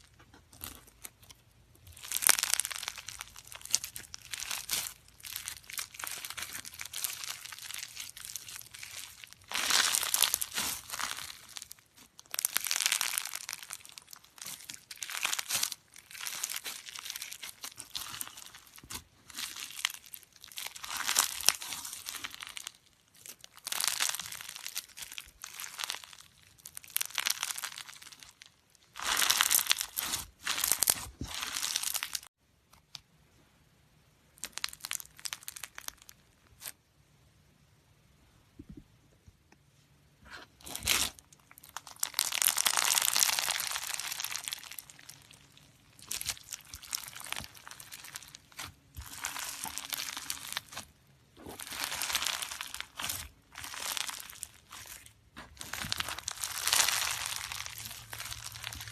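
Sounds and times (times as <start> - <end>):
slime squeezed by hand crackling: 0.6 - 32.3, 34.4 - 36.8, 40.3 - 58.9.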